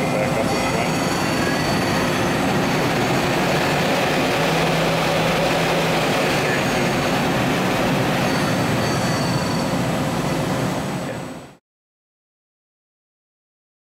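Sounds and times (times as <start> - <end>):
lathe running: 0.0 - 11.5.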